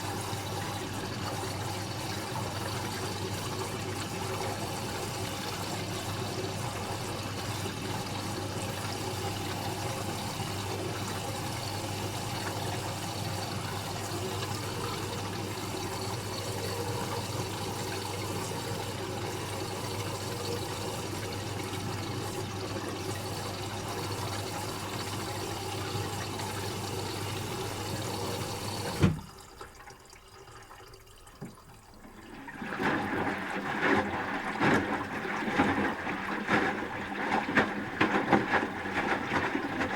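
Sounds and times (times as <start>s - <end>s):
washing machine water rushing: 0.0s - 39.9s.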